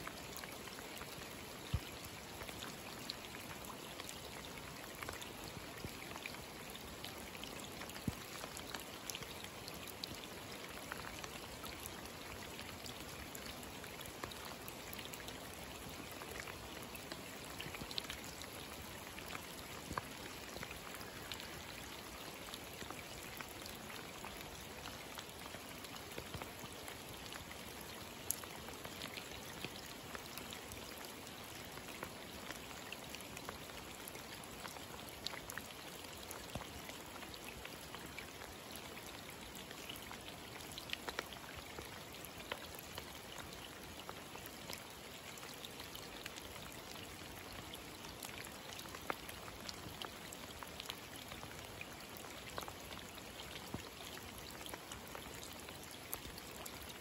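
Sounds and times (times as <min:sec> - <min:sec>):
rain falling into a puddle: 0:00.0 - 0:57.0.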